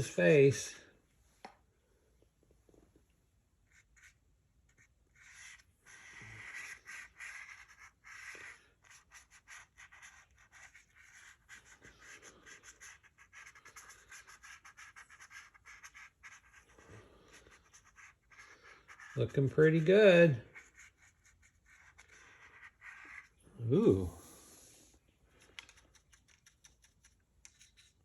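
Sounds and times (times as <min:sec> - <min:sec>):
paintbrush strokes on paper: 0:03.6 - 0:28.0.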